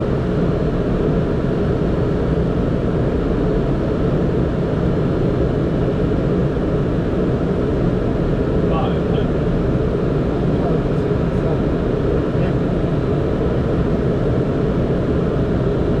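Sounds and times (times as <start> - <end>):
aircraft engines and airflow: 0.0 - 16.0.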